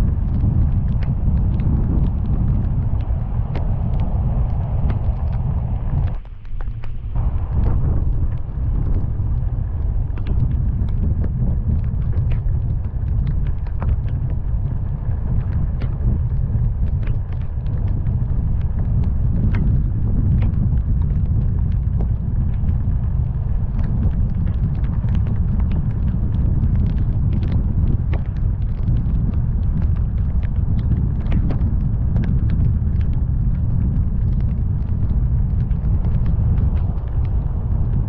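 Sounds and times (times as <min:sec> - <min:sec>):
raindrops striking car: 0:00.0 - 0:38.0
road and wind noise: 0:00.0 - 0:38.0.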